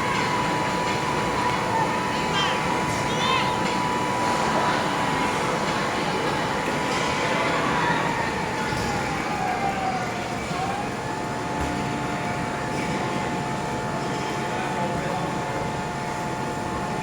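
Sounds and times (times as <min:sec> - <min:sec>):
air blower whining: 0:00.0 - 0:14.0.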